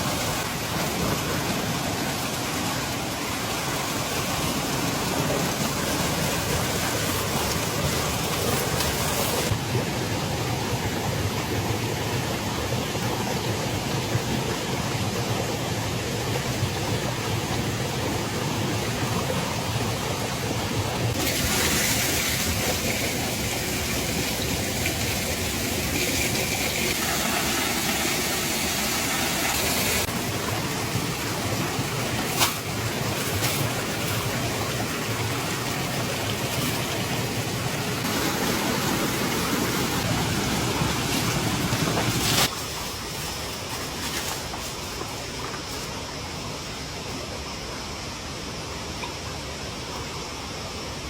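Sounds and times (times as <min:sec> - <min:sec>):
rain: 0:00.0 - 0:51.0
running water: 0:00.0 - 0:51.0.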